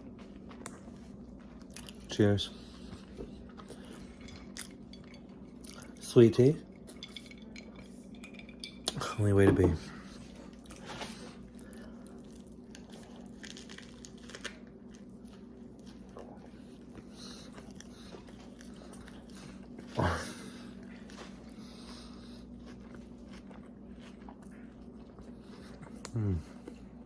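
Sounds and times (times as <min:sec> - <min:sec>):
chewing a soft wrap: 0:00.0 - 0:06.0, 0:10.0 - 0:27.0.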